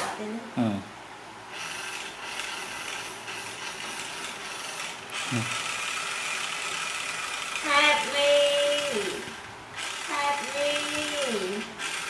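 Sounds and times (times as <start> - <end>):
toy car motor whirring: 1.5 - 12.0.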